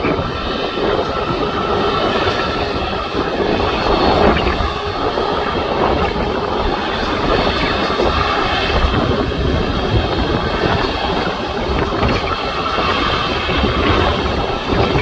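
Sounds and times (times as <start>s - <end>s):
faint high whine: 0.0s - 15.0s
jet engines rumbling: 0.0s - 15.0s.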